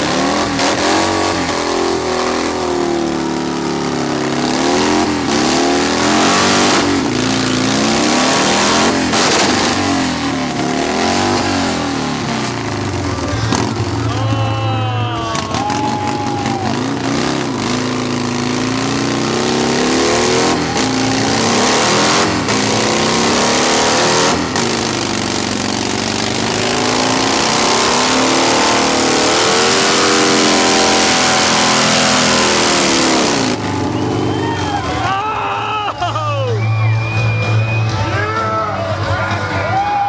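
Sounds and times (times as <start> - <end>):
motorcycle engine revving: 0.0 - 35.0
spinning tyre rushing noise: 0.0 - 35.2.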